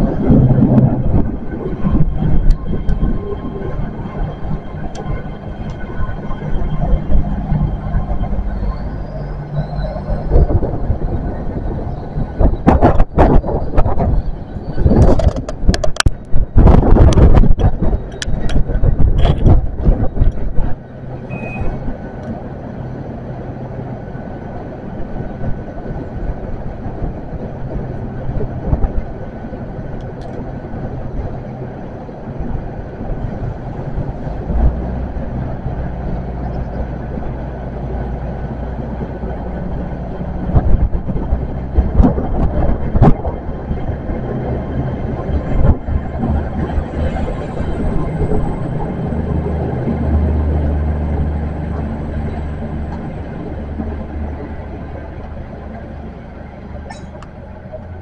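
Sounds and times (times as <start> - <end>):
train diesel engines droning: 0.0 - 58.0.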